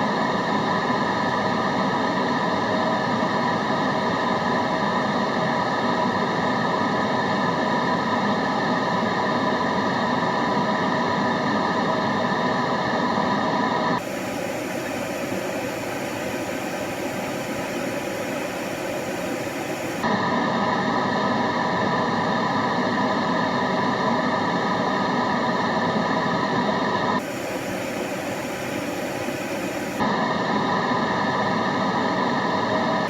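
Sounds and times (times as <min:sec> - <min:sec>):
white noise with steady tones: 0:00.0 - 0:33.0.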